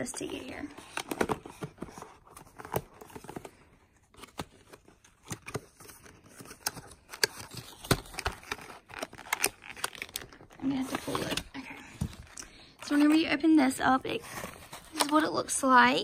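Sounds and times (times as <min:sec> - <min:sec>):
cardboard packaging handled: 0:00.1 - 0:13.3.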